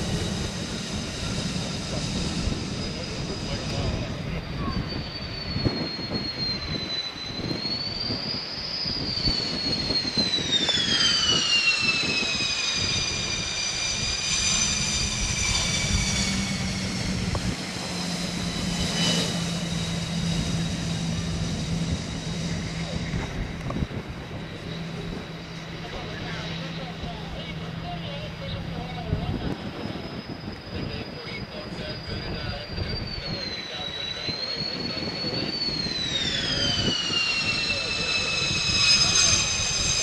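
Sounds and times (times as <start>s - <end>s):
fighter jet roar passing: 0.0s - 40.0s.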